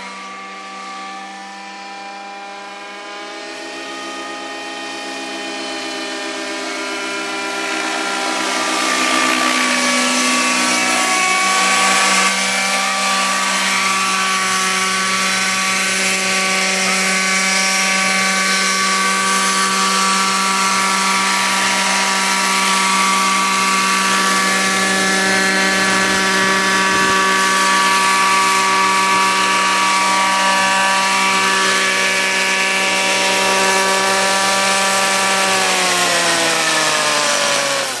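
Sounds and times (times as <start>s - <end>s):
model helicopter engine running: 0.0s - 38.0s.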